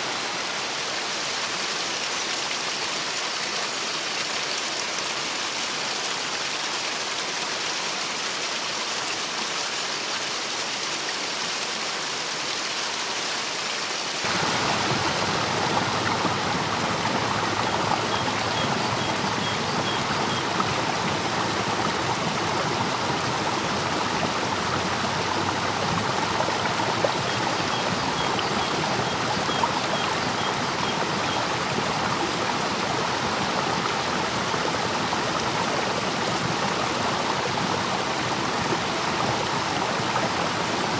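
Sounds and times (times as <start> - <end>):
river water rushing over rapids: 0.0 - 40.9.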